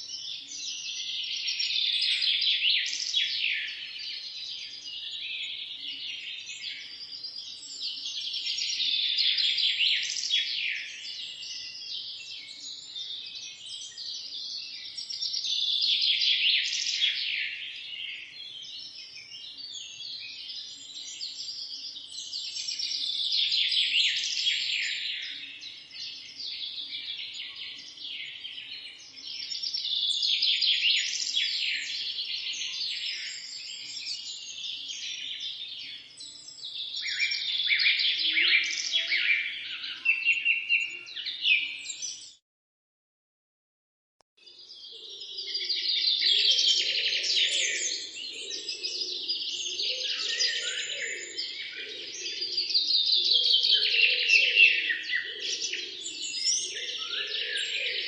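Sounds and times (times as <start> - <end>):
chorus of small birds chirping: 0.0 - 42.4, 44.4 - 58.0.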